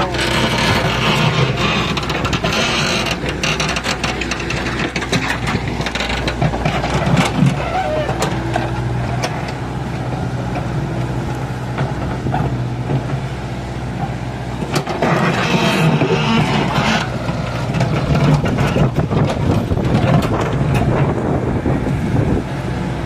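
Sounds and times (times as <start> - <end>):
knocks and clatter: 0.0 - 10.7, 11.7 - 21.2
digger diesel engine running: 0.0 - 23.0.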